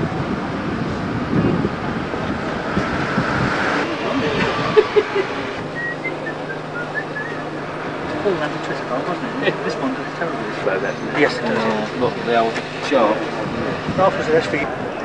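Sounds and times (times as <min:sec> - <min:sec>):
distant voices: 0:00.0 - 0:15.0.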